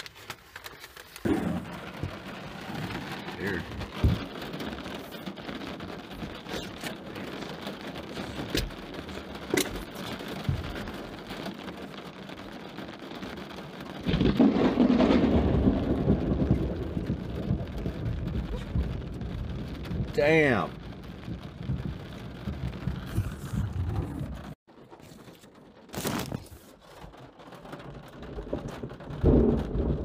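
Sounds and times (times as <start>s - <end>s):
rain drop ticks: 0.0s - 30.0s
rain on window glass: 0.0s - 30.0s
thunder rumble: 1.2s - 30.0s.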